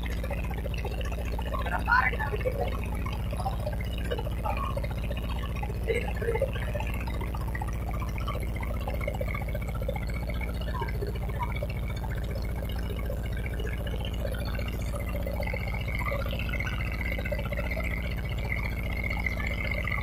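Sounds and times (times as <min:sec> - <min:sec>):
boat engine running: 0:00.0 - 0:20.0
water rushing along hull: 0:00.0 - 0:20.0.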